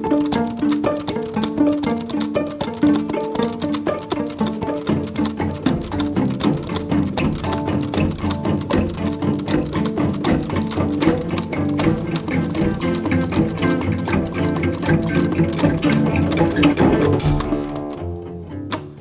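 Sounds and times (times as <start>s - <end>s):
lively string music with bass: 0.0s - 19.0s.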